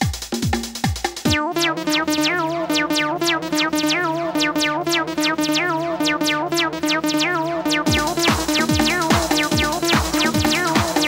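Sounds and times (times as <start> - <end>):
fast hi-hats: 0.0 - 11.0
synth bassline with gliding notes: 1.3 - 11.0.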